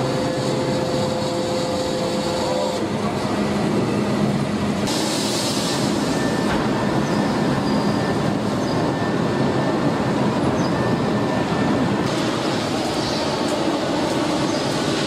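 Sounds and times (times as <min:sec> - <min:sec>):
dense machinery noise: 0:00.0 - 0:15.0.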